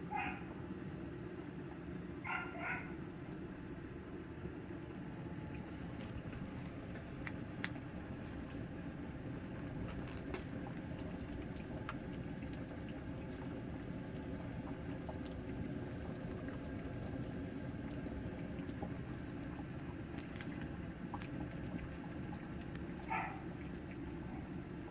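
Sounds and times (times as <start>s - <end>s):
broth bubbling in a cauldron: 0.2s - 24.9s
faint fire crackles: 3.6s - 24.9s.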